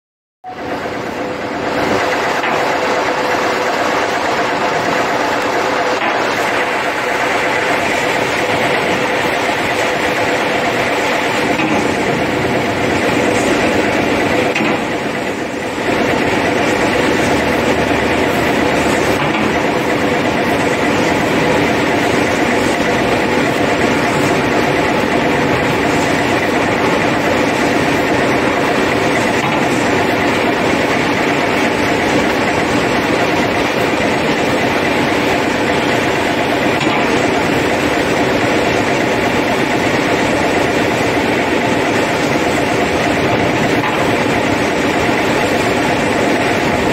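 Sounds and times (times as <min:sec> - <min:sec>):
engine drone: 0:00.4 - 0:46.9.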